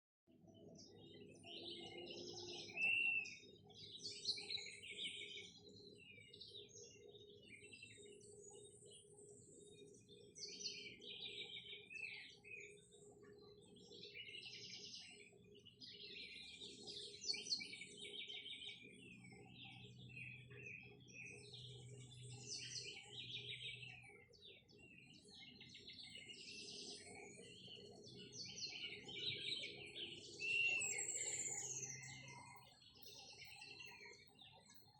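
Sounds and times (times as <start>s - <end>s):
birds chirping and singing: 0.6s - 34.9s.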